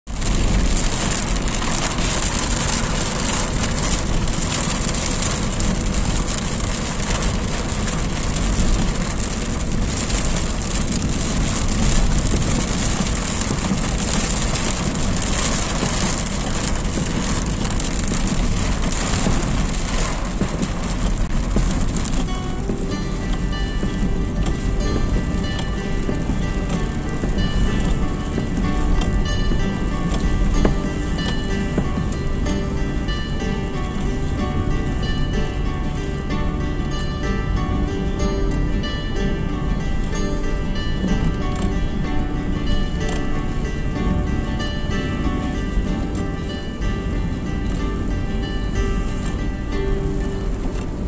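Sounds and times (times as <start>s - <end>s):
heavy rain pattering: 0.1s - 51.0s
low rumble: 0.1s - 51.0s.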